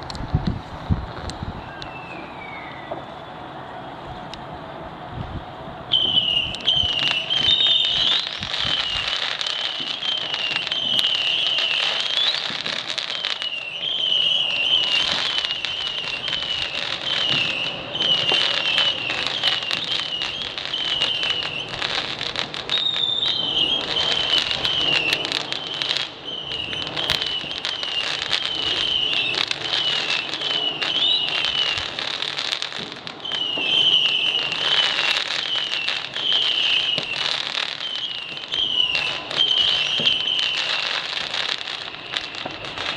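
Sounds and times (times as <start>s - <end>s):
fireworks crackling: 0.0s - 42.9s
high warbling whistle: 1.4s - 4.2s, 5.9s - 42.9s.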